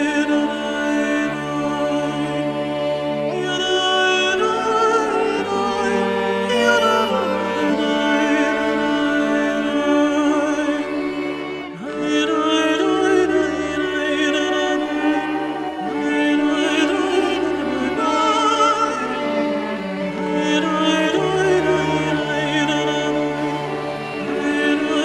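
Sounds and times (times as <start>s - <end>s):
slow music with vibrato notes: 0.0s - 25.0s.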